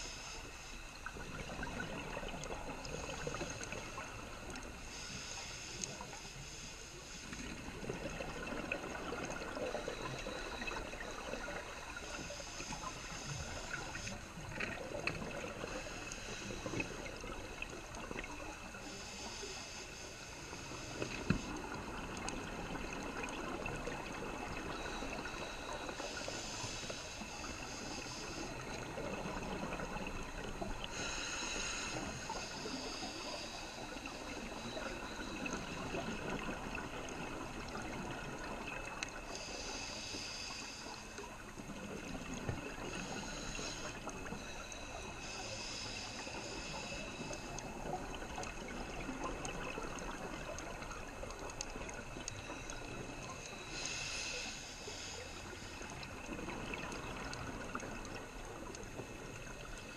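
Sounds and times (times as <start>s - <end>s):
scuba regulator breathing hiss: 0.0s - 49.0s, 49.6s - 59.9s
muffled underwater rush of water: 0.0s - 59.9s.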